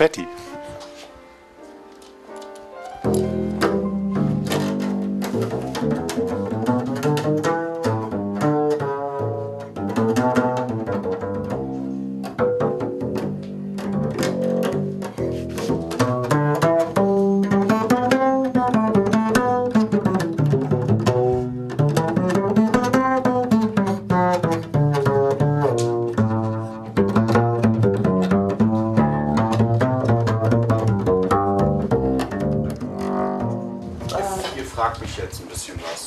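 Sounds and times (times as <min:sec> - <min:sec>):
double bass plucked jazz line: 0:02.8 - 0:36.0.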